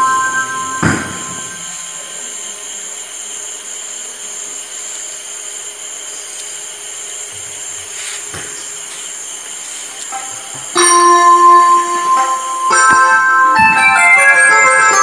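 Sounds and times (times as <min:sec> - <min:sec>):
faint steady hum: 0:00.0 - 0:15.0
night insects chirring: 0:00.0 - 0:15.0.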